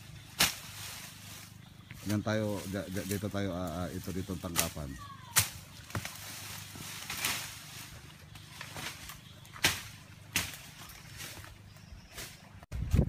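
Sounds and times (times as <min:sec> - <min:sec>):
crunching through dry undergrowth: 0:00.0 - 0:12.6.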